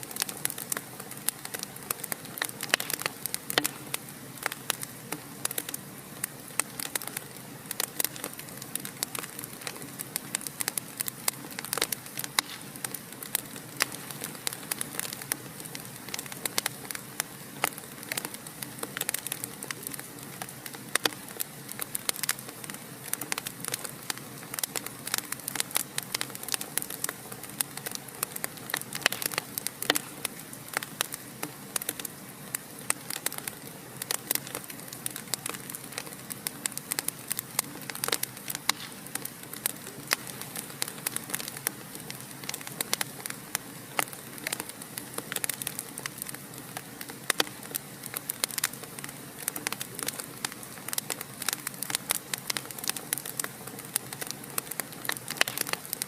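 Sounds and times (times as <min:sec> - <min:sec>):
fireplace fire crackling: 0:00.0 - 0:56.0
soft steady hiss: 0:00.0 - 0:56.0.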